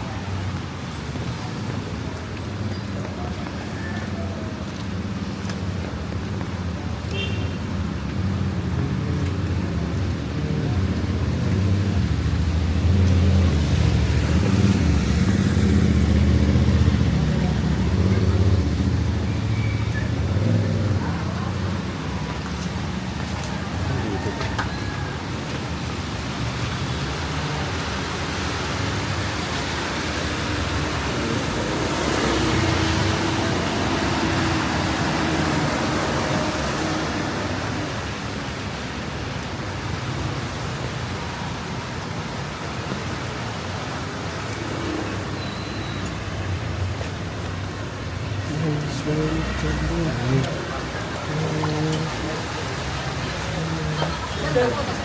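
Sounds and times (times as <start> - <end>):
low traffic rumble: 0.0 - 55.0
wet street hiss: 0.0 - 55.0.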